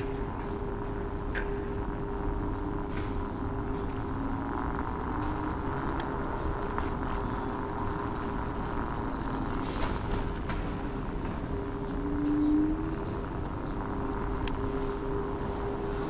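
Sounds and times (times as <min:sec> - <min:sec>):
electric scooter motor whine: 0:00.0 - 0:16.0.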